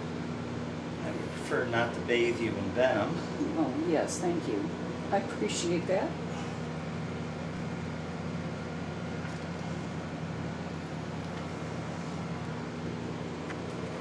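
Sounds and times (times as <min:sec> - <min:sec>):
air conditioning hum: 0:00.0 - 0:14.0.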